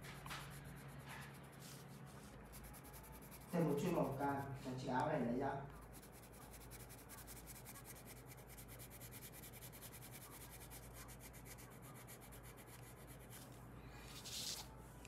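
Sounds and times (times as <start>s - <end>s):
pencil scratching on paper: 0.0s - 4.8s, 5.8s - 13.5s.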